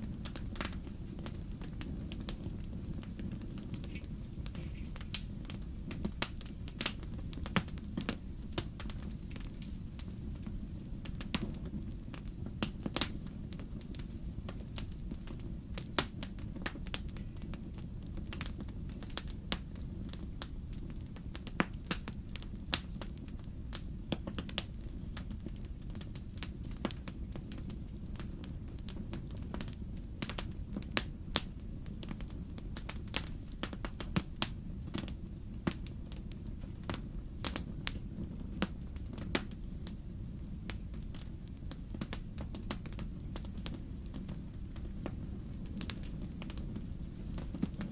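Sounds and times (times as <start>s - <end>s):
fire crackling in fireplace: 0.0s - 47.9s.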